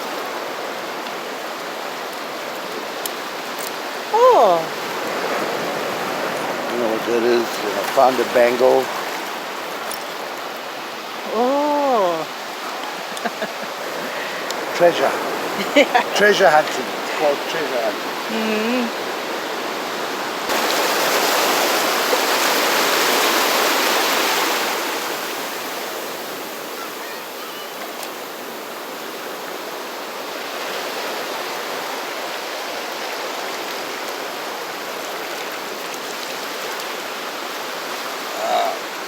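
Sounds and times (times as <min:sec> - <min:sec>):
surf washing over rocks: 0:00.0 - 0:39.0.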